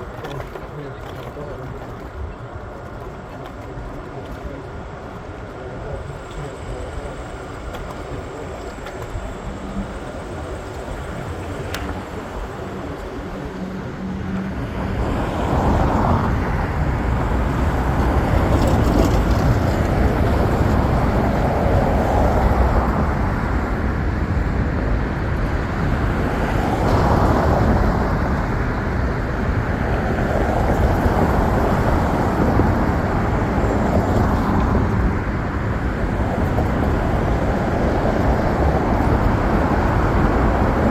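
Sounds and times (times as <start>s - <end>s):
train rumbling: 0.0s - 40.9s.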